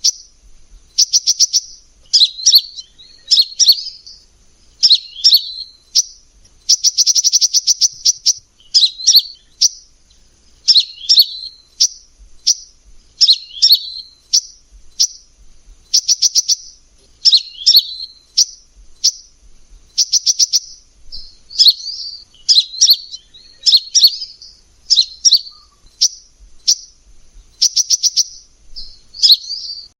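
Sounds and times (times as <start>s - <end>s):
bird singing high sharp chirps: 0.0s - 29.9s.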